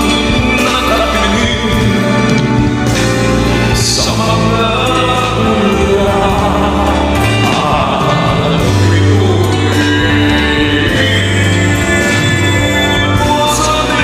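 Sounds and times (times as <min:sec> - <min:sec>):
ballad backing track: 0:00.0 - 0:14.0
person singing: 0:00.0 - 0:14.0.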